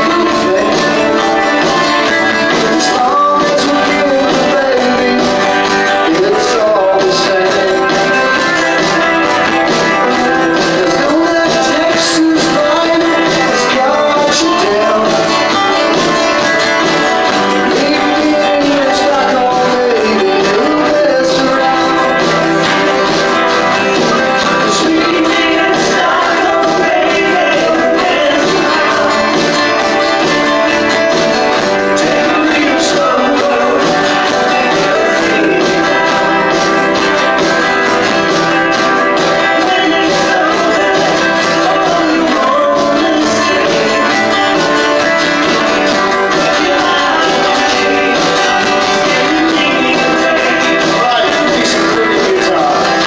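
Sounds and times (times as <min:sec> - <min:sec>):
acoustic guitar: 0:00.0 - 0:53.0
drums: 0:00.0 - 0:53.0
electric guitar: 0:00.0 - 0:53.0
pedal steel guitar: 0:00.0 - 0:53.0.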